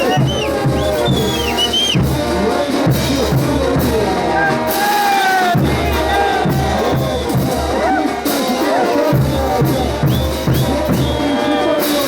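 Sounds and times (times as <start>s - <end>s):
brass band playing dance music: 0.0s - 12.0s
drum beats: 0.0s - 12.0s.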